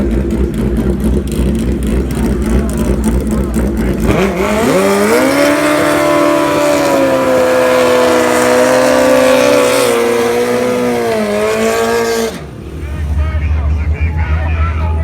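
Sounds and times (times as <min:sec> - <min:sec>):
racing motorcycle engine high revs: 0:00.0 - 0:12.7.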